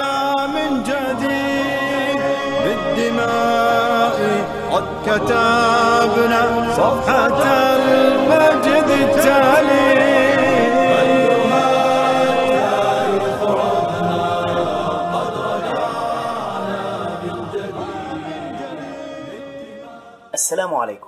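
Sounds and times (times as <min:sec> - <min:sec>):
choir singing: 0:00.0 - 0:20.4.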